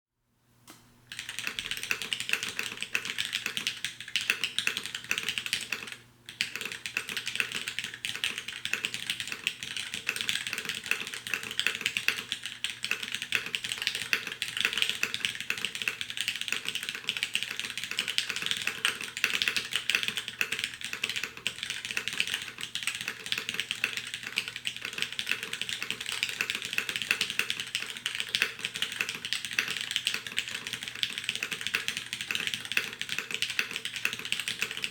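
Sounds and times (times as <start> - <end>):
fast typing on mechanical keyboard: 1.1 - 34.9.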